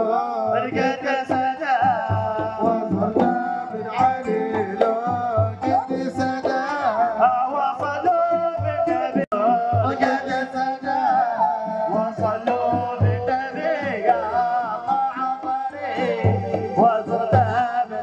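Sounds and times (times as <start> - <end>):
men singing: 0.0 - 18.0
steady drum beat: 0.0 - 18.0.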